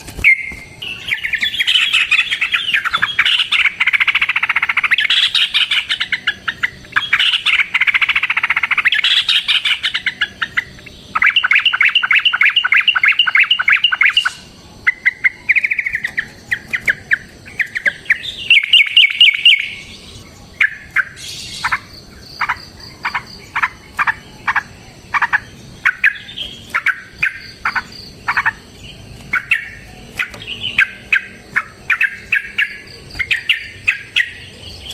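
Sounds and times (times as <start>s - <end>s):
bulbuls singing: 0.0s - 34.9s
bird call notes: 0.2s - 34.9s.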